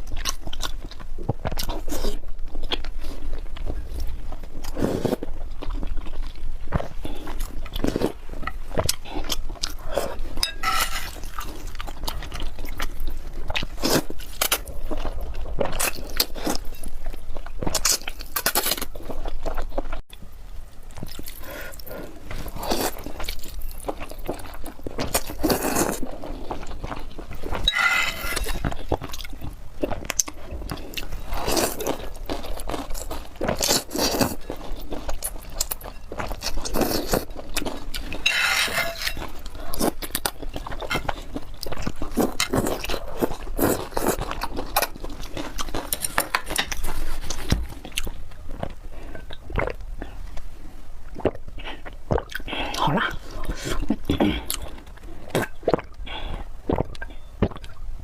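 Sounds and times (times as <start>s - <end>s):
person chewing food: 0.0s - 20.3s, 20.9s - 57.9s.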